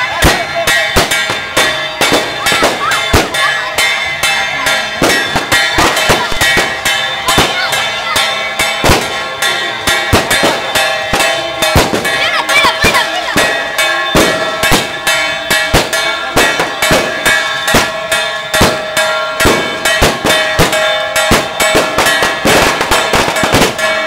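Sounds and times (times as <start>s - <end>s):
firecrackers popping: 0.0s - 24.0s
hand gong ringing: 0.2s - 24.0s.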